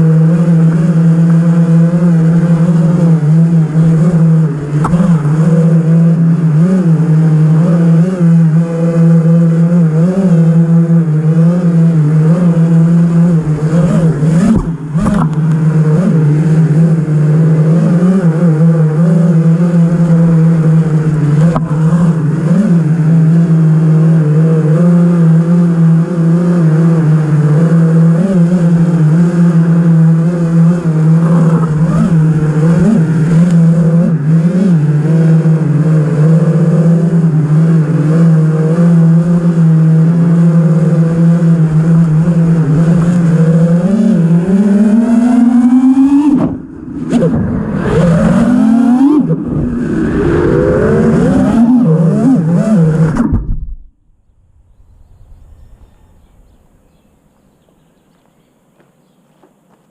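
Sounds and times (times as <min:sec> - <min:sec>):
quadcopter motors whining: 0:00.0 - 0:53.3.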